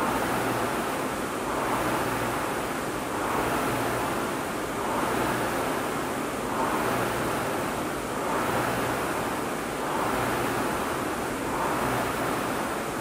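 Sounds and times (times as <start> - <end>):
rowing machine flywheel whooshing: 0.0 - 13.0.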